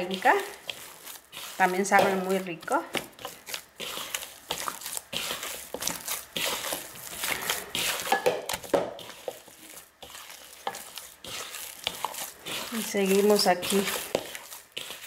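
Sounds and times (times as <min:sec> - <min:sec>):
hand beating dough in a bowl: 0:00.0 - 0:15.0.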